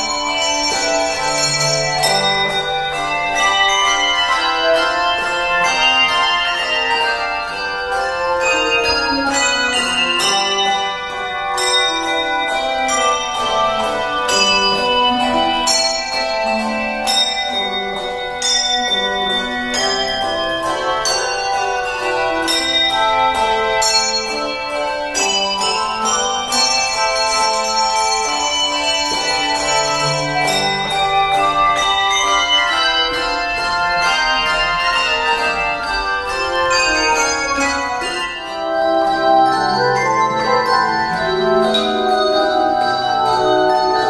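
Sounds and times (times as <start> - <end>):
handbell choir playing: 0.0 - 44.0.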